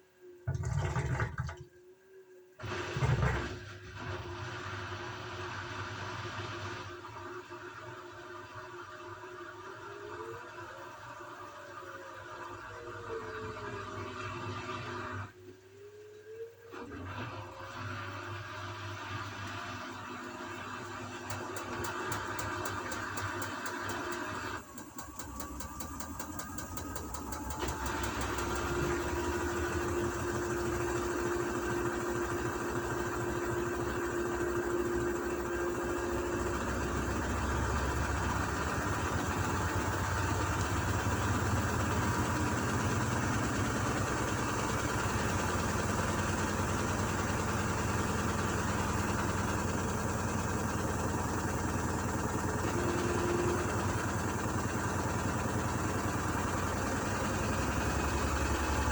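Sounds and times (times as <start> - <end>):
washing machine motor running: 0.4 - 1.8, 2.6 - 58.9.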